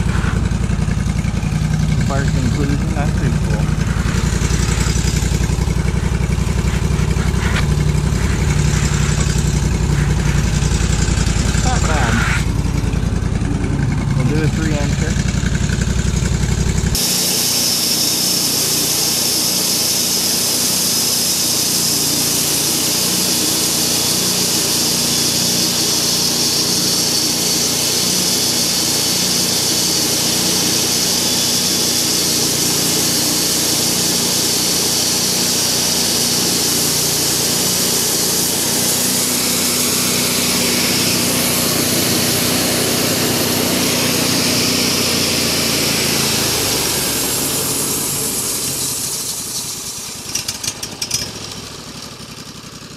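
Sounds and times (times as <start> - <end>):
bandsaw mill engine running: 0.0 - 52.9.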